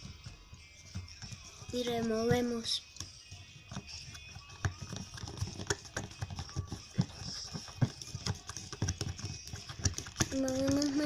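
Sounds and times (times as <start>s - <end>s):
spoon scraping a bowl: 0.0s - 11.0s.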